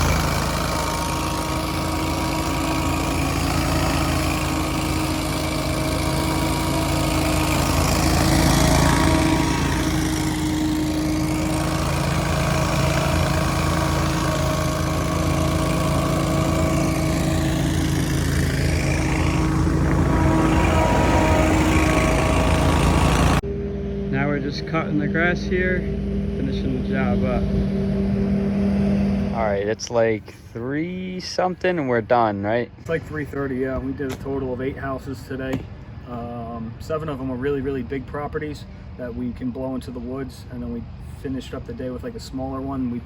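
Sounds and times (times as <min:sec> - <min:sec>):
lawn mower engine running: 0:00.0 - 0:36.4.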